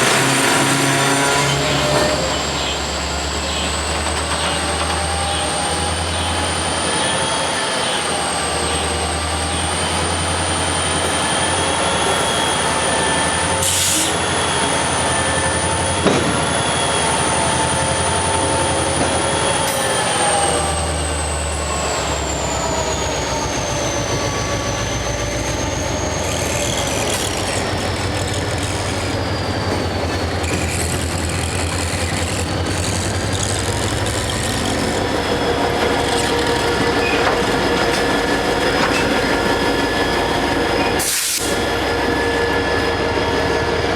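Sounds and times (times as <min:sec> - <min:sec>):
diesel locomotive engine drone: 0:00.0 - 0:43.9.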